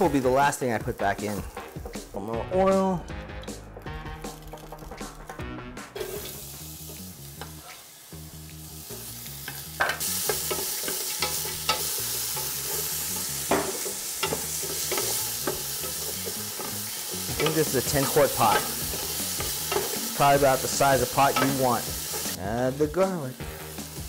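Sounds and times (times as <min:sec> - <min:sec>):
onions sizzling in hot oil: 0:00.0 - 0:02.2, 0:05.9 - 0:24.0.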